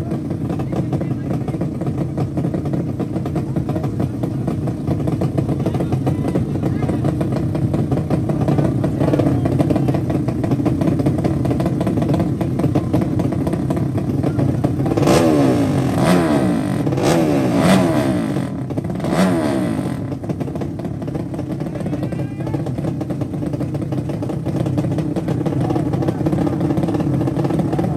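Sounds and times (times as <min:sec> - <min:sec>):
motorcycle engines revving: 0:00.0 - 0:27.9.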